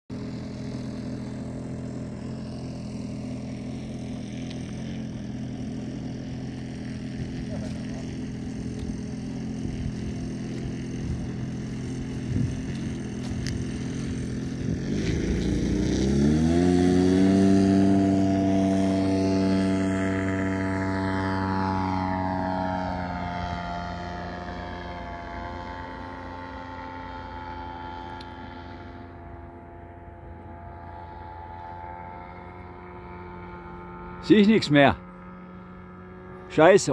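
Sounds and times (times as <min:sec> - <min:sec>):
model plane engine idling: 0:00.1 - 0:36.9.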